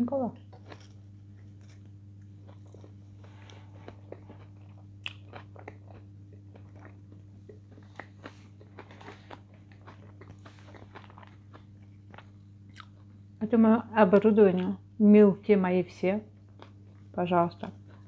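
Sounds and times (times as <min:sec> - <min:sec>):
low electrical hum: 0:00.0 - 0:18.0
person chewing food: 0:00.4 - 0:13.3, 0:16.4 - 0:18.0.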